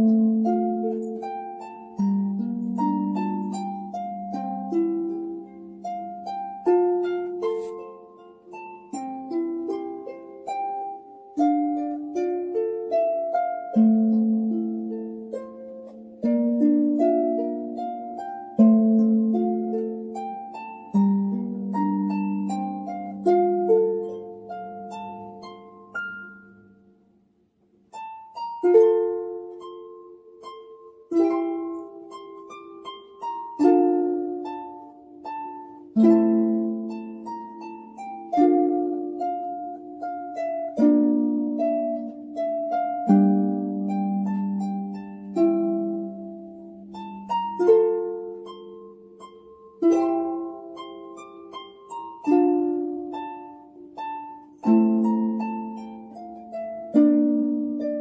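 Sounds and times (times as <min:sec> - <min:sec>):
harp playing slow piece: 0:00.0 - 0:58.0.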